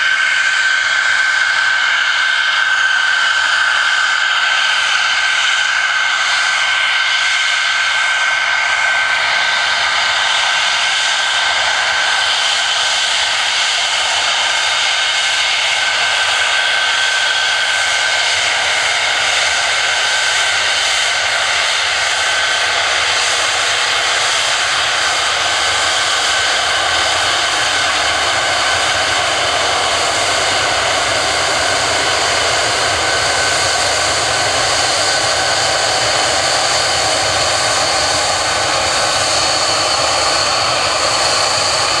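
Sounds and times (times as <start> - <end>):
jet engine whine: 0.0 - 42.0.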